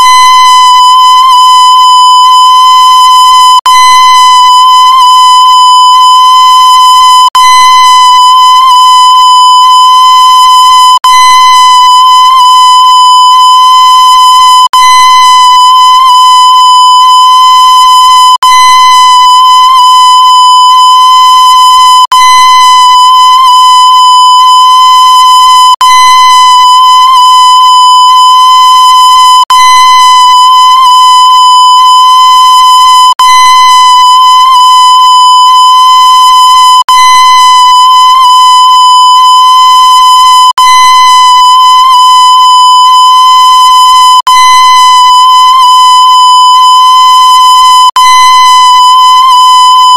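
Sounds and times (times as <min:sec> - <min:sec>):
electronic beep tone: 0:00.0 - 0:49.9.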